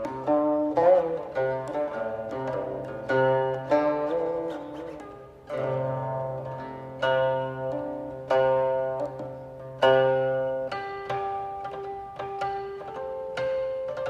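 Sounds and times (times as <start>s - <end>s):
plucked zither music: 0.0s - 14.0s.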